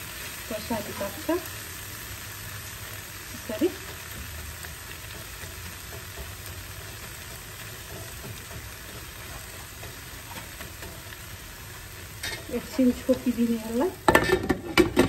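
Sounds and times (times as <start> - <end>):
chillies sizzling in oil: 0.0 - 15.0.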